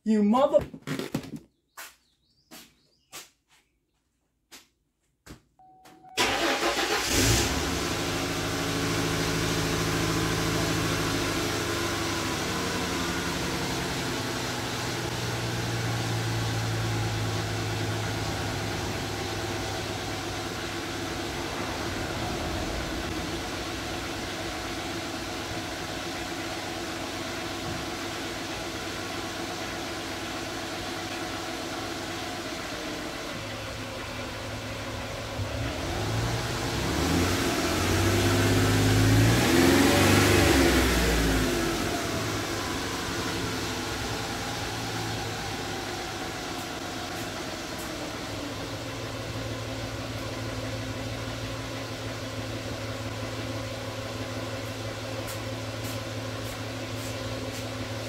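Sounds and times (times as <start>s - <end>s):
car engine starting and idling: 5.6s - 58.0s.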